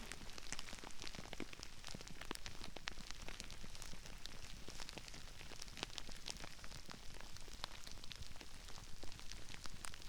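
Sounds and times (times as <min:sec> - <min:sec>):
crispy rice crackling and popping: 0:00.0 - 0:10.0.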